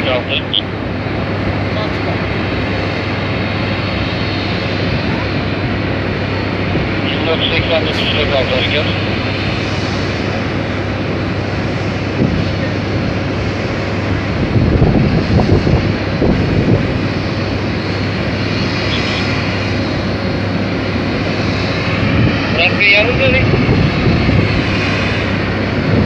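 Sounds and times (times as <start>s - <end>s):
jet engine whine and rush: 0.0s - 26.0s.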